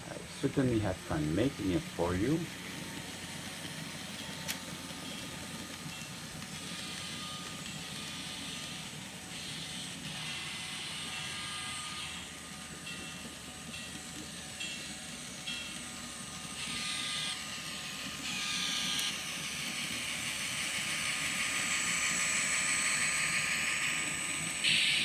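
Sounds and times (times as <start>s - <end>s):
model locomotive engine sounds: 0.0s - 25.0s.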